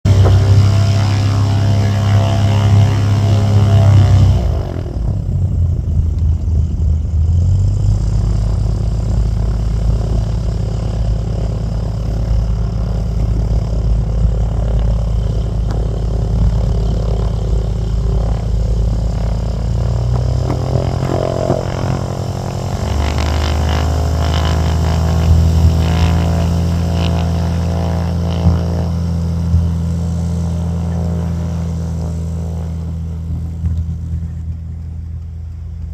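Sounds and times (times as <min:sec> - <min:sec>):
aircraft engines droning: 0:00.0 - 0:35.9.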